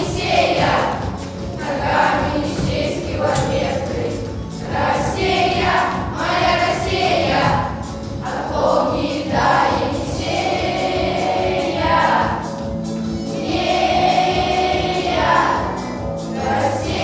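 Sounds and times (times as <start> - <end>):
children singing in a choir: 0.0 - 12.6, 13.2 - 17.0
instrumental accompaniment: 0.0 - 17.0.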